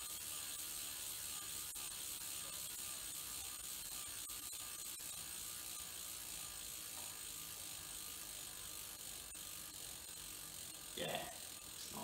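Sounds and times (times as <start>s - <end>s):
bicycle freehub ticking: 0.0s - 12.0s.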